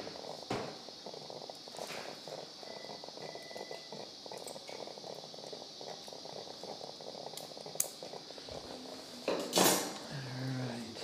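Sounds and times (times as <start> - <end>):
thin steady tone: 0.0 - 9.4
faint crackling: 0.0 - 11.0
steady hiss: 0.0 - 11.0.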